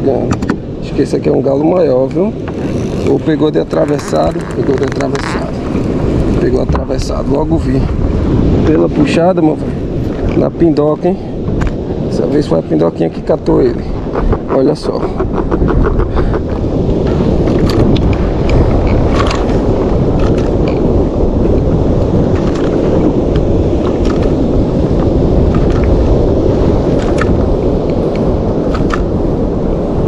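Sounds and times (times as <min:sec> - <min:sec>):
water rushing and splashing: 0:00.0 - 0:30.0
wind buffeting microphone: 0:00.0 - 0:30.0.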